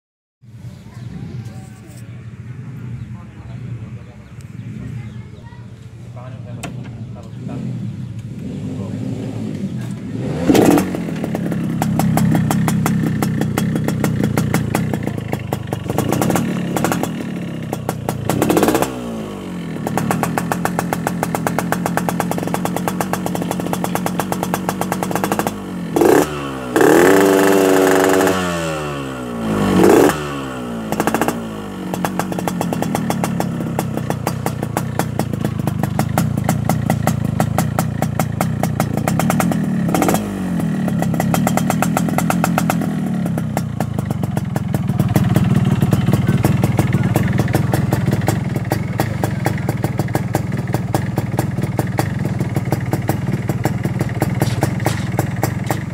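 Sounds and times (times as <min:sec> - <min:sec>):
motorcycle engine idling and revving: 0:00.4 - 0:55.9.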